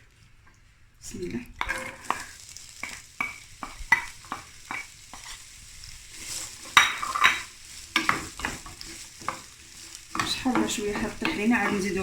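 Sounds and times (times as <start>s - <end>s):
onion sizzling in oil: 0.0s - 12.0s
utensil scraping a pan: 1.6s - 12.0s.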